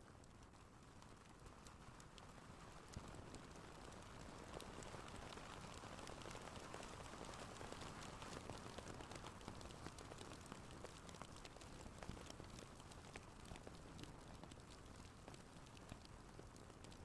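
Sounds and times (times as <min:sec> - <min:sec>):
wood fire crackling and hissing: 0:00.0 - 0:17.0.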